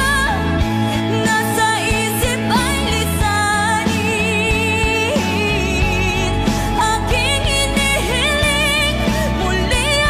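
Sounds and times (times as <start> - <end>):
instrumental accompaniment with beat: 0.0 - 10.0
person singing a pop ballad: 0.0 - 10.0.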